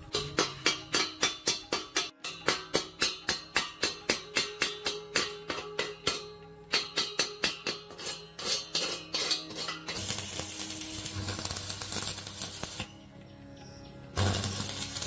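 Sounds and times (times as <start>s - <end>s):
percussive background music: 0.0s - 13.2s, 14.0s - 15.0s.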